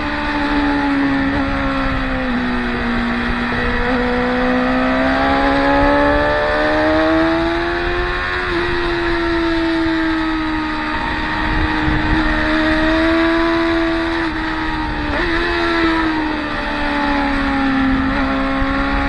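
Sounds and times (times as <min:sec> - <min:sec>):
motorcycle engine racing: 0:00.0 - 0:19.0.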